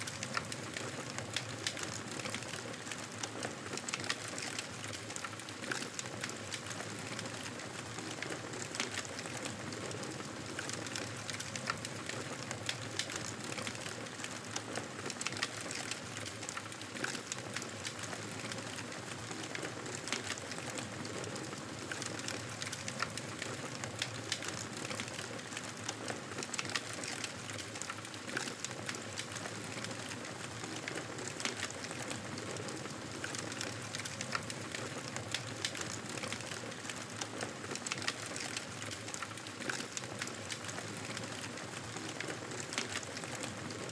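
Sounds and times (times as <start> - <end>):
burning wood crackling and popping: 0.0 - 43.9.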